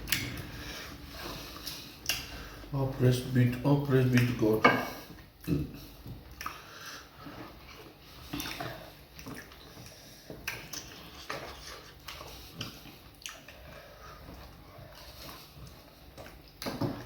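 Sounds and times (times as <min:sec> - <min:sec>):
wet chewing and smacking: 0:00.0 - 0:02.7, 0:05.0 - 0:17.0.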